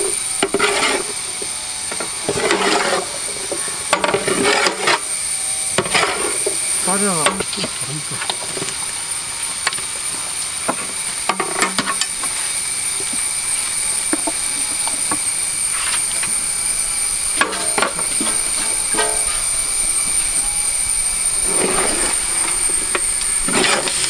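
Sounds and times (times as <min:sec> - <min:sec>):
high-pitched whine: 0:00.0 - 0:24.0
meat sizzling in a pot: 0:00.0 - 0:24.0.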